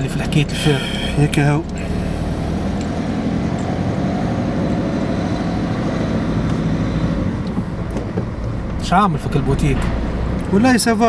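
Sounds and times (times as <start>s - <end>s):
car engine hum: 0.0s - 11.0s
road noise inside car: 0.0s - 11.0s.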